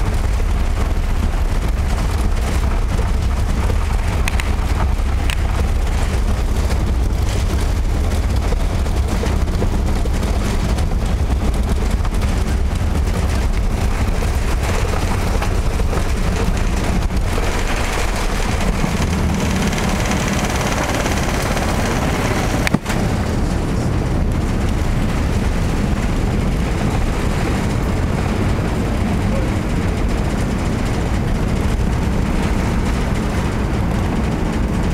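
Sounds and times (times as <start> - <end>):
jet engine and runway rumble: 0.0 - 34.9.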